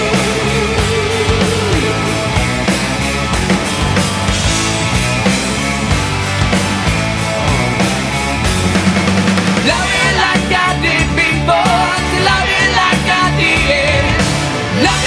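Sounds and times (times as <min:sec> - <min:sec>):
melodic lead line: 0:00.0 - 0:15.0
rock music with drums and guitar: 0:00.0 - 0:15.0.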